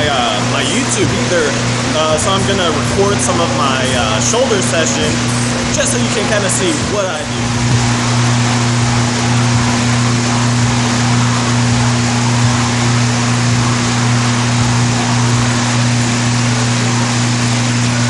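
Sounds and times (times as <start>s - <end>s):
loud machine drone: 0.0s - 18.0s.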